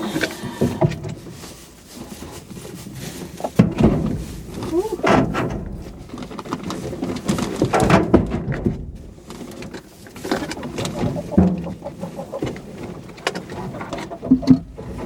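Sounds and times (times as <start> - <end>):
hens clucking: 0.0 - 7.9, 8.8 - 15.0
rustling: 0.0 - 15.0.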